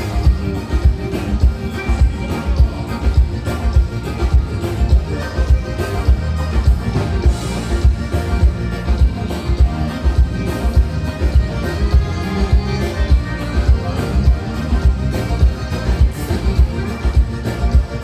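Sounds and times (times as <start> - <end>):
live band playing instrumental: 0.0 - 18.0.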